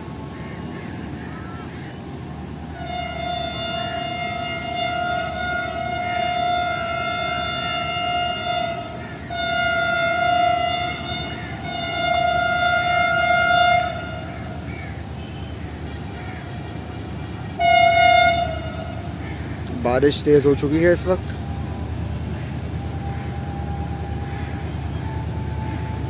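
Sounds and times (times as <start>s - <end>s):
locomotive horn blasts: 2.5s - 19.6s, 20.4s - 26.0s.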